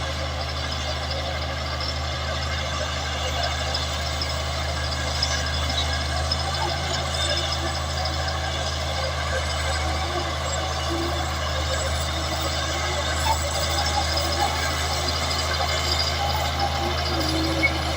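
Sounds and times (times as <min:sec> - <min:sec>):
diesel engine drone: 0:00.0 - 0:17.9.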